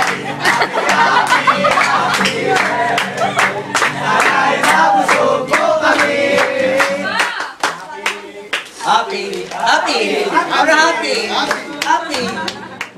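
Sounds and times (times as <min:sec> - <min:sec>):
hand claps: 0:00.0 - 0:09.7, 0:11.5 - 0:12.9
group singing: 0:00.0 - 0:12.2.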